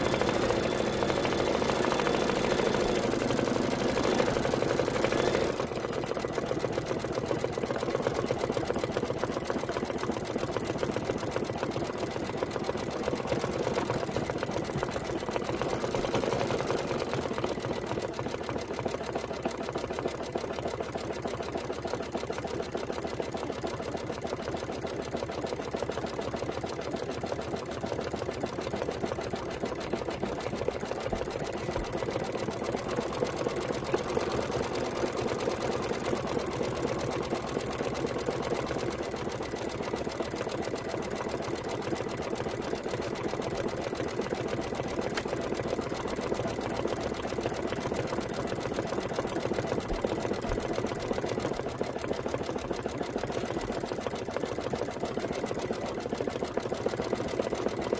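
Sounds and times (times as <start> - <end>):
embroidery machine stitching: 0.0 - 57.9.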